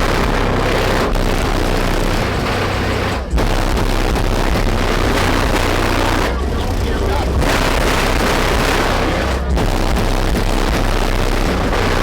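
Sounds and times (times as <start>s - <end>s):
distorted bass-heavy music: 0.0s - 12.0s.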